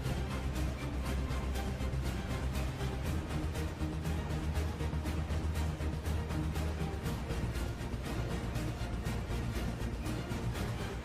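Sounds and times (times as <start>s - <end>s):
music with deep bass and beat: 0.0s - 11.0s.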